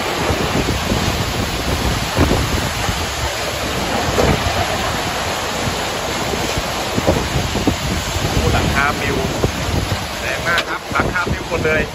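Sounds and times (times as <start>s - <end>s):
heavy rain: 0.0s - 11.9s
wind buffeting microphone: 0.0s - 11.9s.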